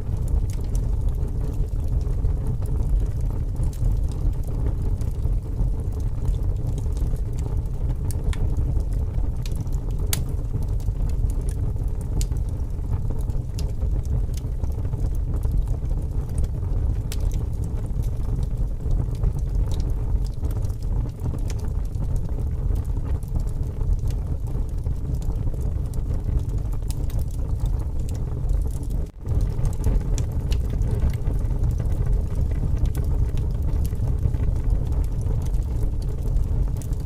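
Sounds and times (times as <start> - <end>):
burning logs popping: 0.0 - 37.0
strong wind rumble: 0.0 - 37.0
wood fire crackling: 0.0 - 37.0.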